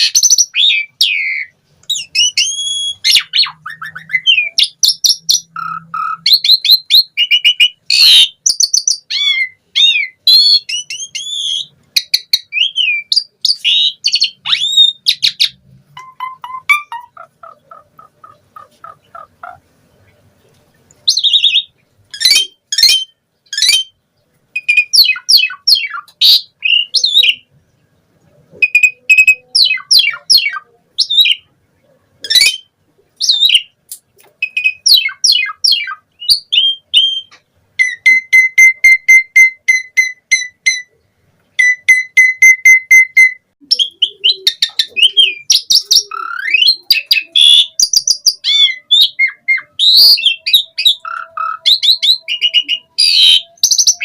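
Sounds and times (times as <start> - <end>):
starling singing: 0.0 - 20.4, 21.0 - 27.6, 28.5 - 54.0.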